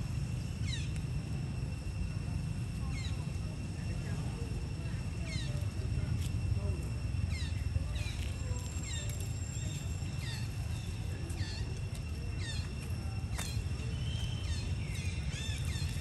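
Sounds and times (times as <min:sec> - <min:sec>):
high insect drone: 0:00.0 - 0:16.0
low wind rumble: 0:00.0 - 0:16.0.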